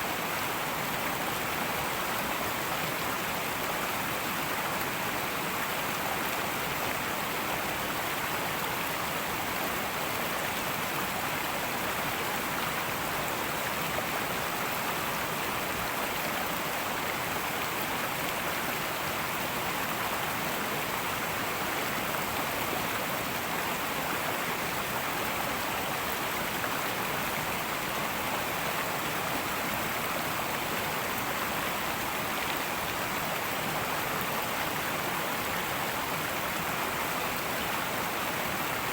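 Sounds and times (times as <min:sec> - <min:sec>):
river rushing and babbling: 0:00.0 - 0:38.9.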